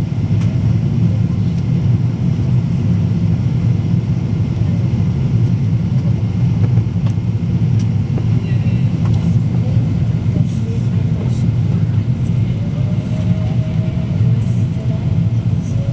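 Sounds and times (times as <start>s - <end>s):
aircraft cabin engine rumble: 0.0s - 15.9s.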